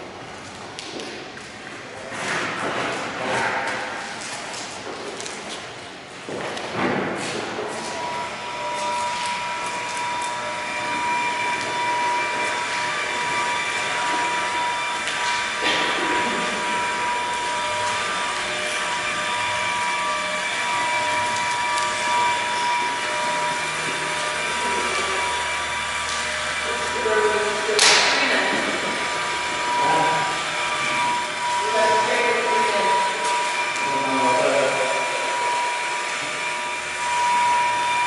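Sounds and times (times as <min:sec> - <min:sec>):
machine motor whining: 0:07.5 - 0:38.0.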